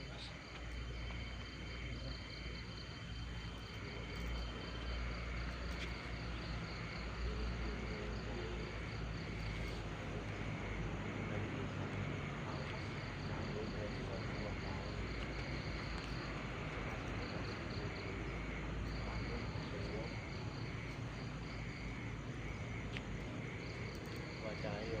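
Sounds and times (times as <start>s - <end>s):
low background rumble: 0.0s - 25.0s
night insects chirping: 0.0s - 25.0s.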